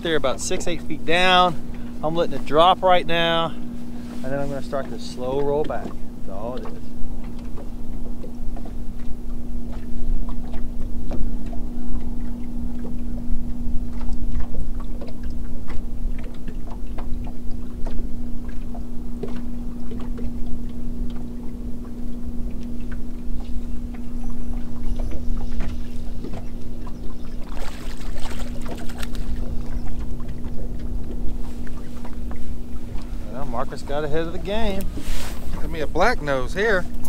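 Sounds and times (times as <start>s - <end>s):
steady low hum: 0.0s - 37.0s
water slapping boat hull: 0.0s - 37.0s.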